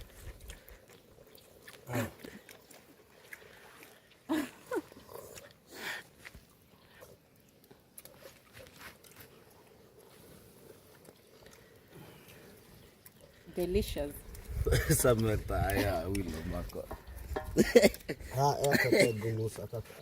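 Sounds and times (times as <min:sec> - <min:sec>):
person chewing and crunching food: 0:00.0 - 0:13.4, 0:14.2 - 0:19.2.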